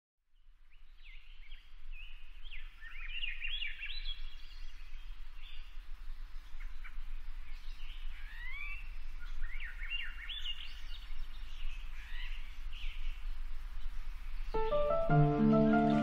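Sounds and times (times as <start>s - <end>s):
birds chirping and singing: 1.0s - 16.0s.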